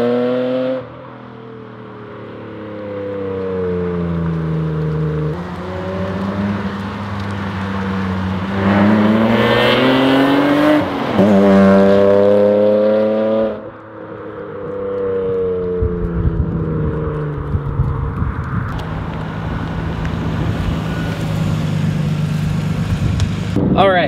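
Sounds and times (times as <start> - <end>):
car engine accelerating: 0.0 - 23.7.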